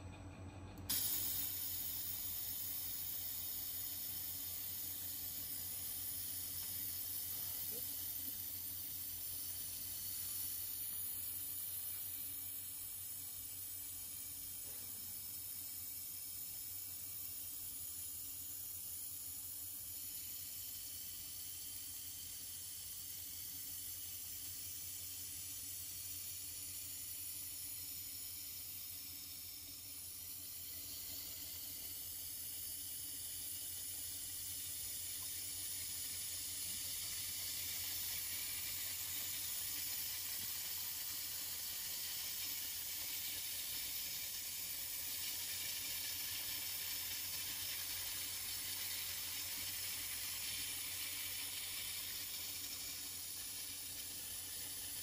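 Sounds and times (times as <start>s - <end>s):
laser welding high hiss: 0.9s - 55.0s.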